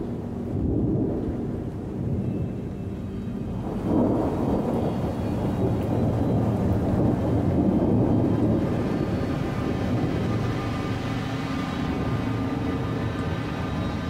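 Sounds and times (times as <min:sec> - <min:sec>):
rain hiss: 0:00.0 - 0:14.0
rolling thunder rumble: 0:00.0 - 0:14.0.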